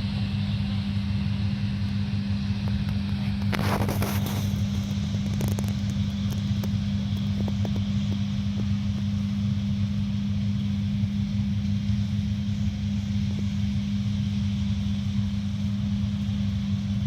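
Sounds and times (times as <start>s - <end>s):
farm vehicle engine running: 0.0s - 17.0s.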